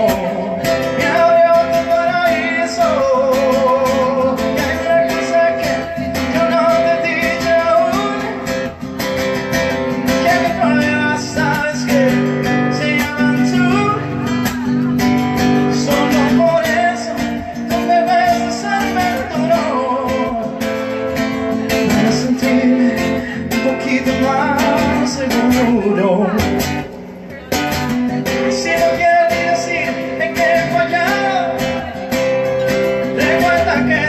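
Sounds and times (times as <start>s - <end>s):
acoustic guitar: 0.0s - 34.0s
man singing: 0.0s - 34.0s.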